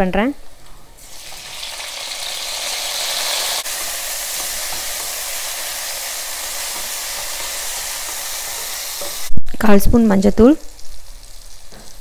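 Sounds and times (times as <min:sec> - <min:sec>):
food sizzling in hot oil: 0:01.0 - 0:09.4, 0:10.1 - 0:12.0.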